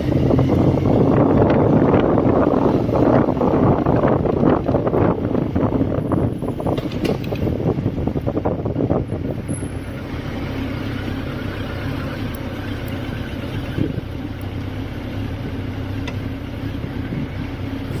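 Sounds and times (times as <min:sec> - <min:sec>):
motorcycle engine running steadily: 0:00.0 - 0:18.0.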